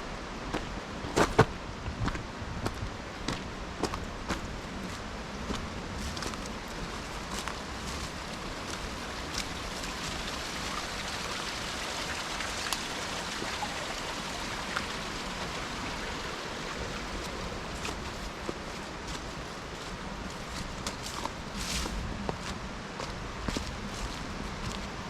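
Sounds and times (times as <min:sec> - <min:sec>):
stream rushing: 0:00.0 - 0:25.0.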